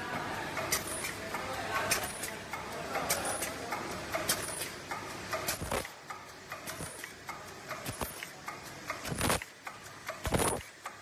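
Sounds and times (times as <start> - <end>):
bag making machine clicking: 0.4 - 11.0.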